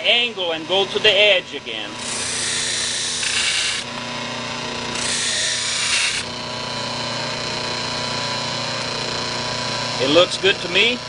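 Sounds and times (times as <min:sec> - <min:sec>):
electric buffer motor humming: 0:00.0 - 0:11.0.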